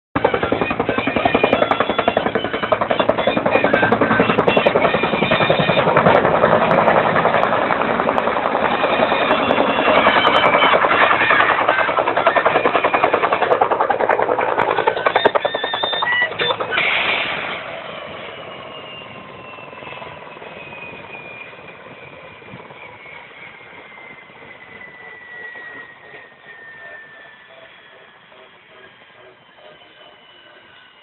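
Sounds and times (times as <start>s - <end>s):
helicopter rotor chopping: 0.2s - 31.0s.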